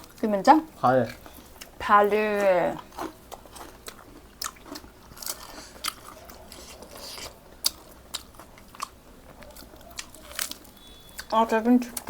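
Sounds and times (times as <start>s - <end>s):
person chewing crisp food: 0.9s - 12.0s.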